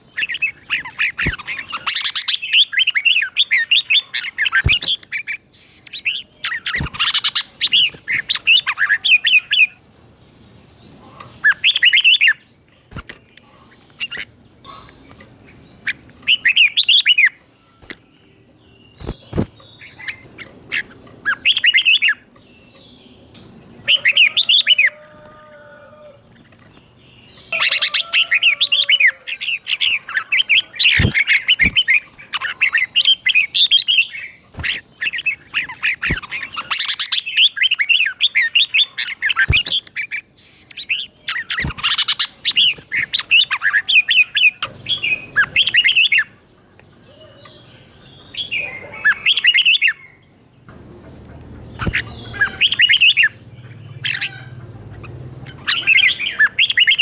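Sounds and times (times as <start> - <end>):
bird singing warbled phrases: 0.0 - 57.0.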